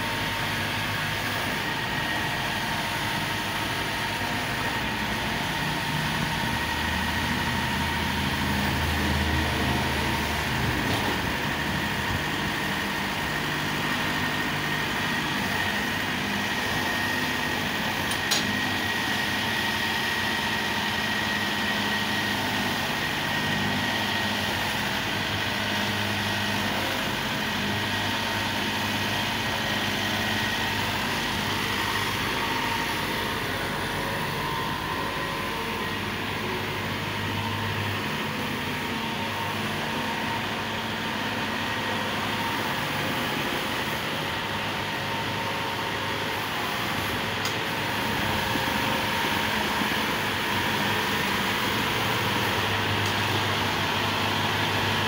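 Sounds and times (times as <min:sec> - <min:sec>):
diesel engine running: 0:00.0 - 0:55.0
steady whine: 0:00.0 - 0:55.0.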